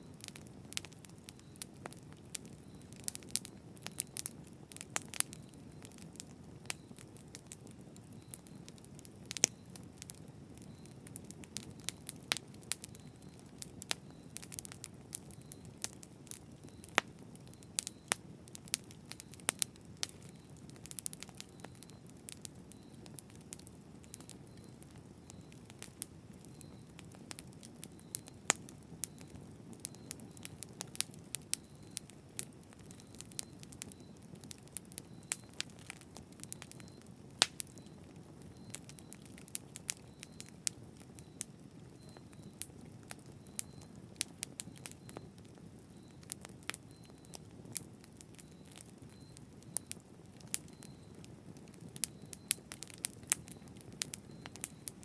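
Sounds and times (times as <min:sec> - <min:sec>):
fire crackles and pops: 0:00.0 - 0:55.0.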